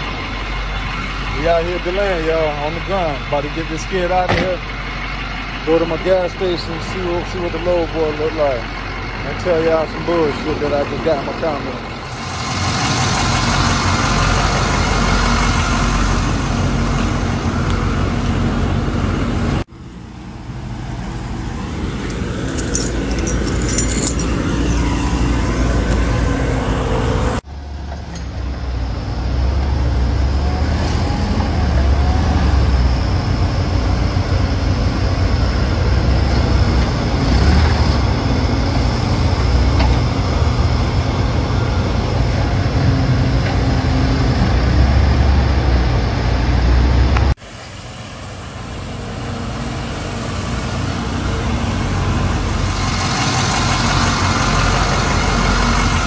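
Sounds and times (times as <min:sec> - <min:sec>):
engines running: 0:00.0 - 0:56.0
forklift running: 0:00.0 - 0:56.0.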